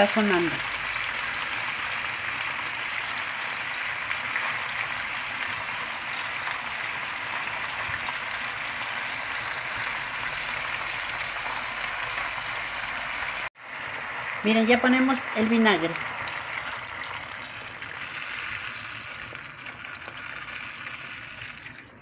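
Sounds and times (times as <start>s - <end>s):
vegetables sizzling in a clay pot: 0.0s - 22.0s.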